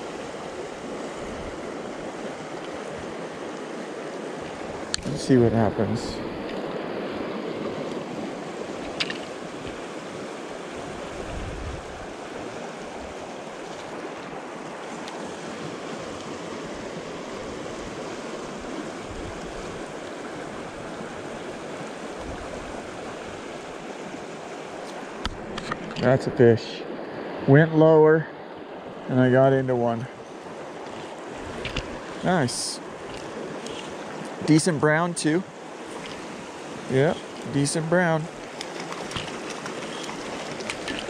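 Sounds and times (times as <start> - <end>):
river water rushing: 0.0 - 26.0, 28.3 - 41.0.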